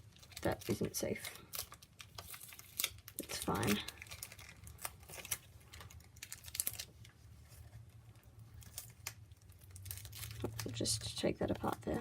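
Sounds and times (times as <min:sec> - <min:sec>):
paper crinkling: 0:00.0 - 0:12.0
paper packaging rustling: 0:00.0 - 0:12.0.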